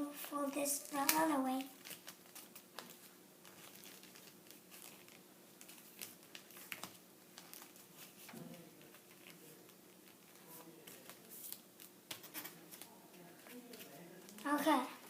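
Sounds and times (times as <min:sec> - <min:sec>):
paper rustling and crinkling: 0:00.2 - 0:15.0.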